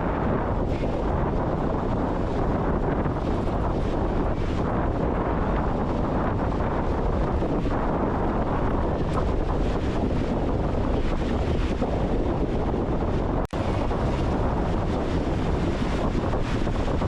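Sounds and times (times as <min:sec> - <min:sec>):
beach surf: 0:00.0 - 0:17.0
wind buffeting microphone: 0:00.0 - 0:17.0.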